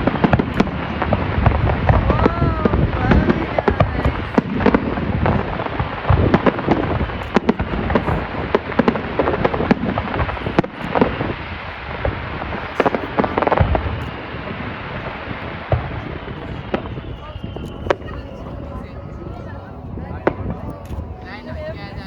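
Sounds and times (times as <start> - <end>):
fireworks bangs and crackling pops: 0.0 - 18.9.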